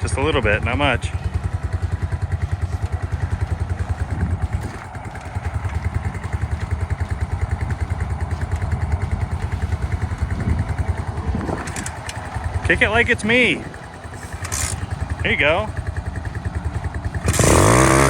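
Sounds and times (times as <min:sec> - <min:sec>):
small motorbike engine idling: 0:00.0 - 0:18.0.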